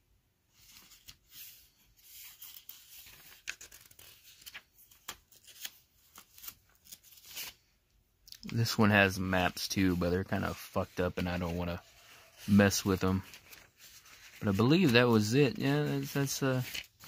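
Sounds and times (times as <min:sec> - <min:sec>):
paper pages rustling: 0:00.5 - 0:07.6, 0:08.4 - 0:17.0.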